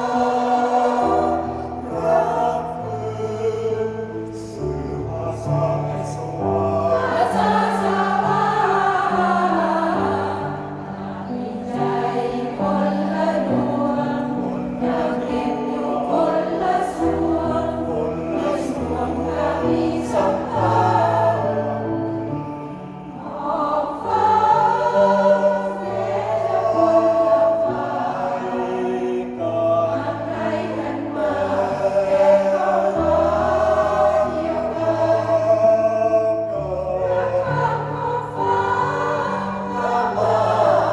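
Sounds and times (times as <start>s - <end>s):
mixed choir singing: 0.0s - 40.9s.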